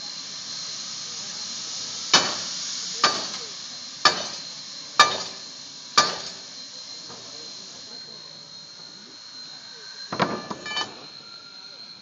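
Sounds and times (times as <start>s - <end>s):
steam hissing: 0.0s - 12.0s
steam locomotive exhaust chuffs: 0.0s - 12.0s.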